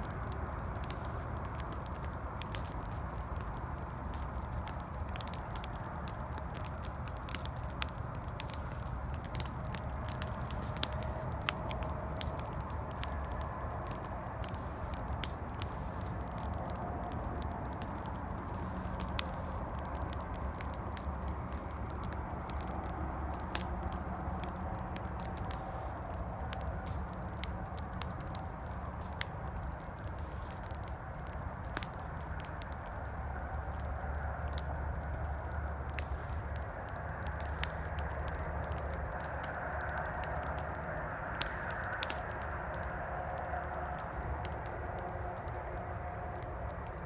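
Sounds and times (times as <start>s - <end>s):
campfire crackling and popping: 0.0s - 47.0s
distant highway traffic rumble: 0.0s - 47.0s.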